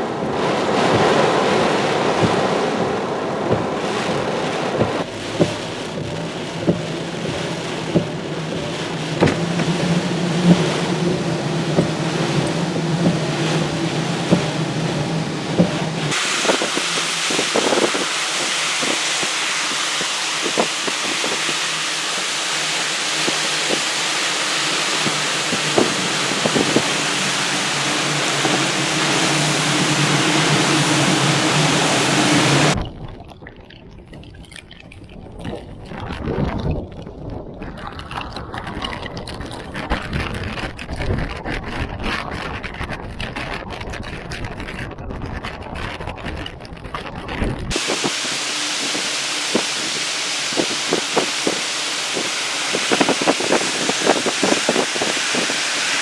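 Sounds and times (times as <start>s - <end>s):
wind and rain rushing: 0.0s - 32.9s, 35.6s - 56.0s.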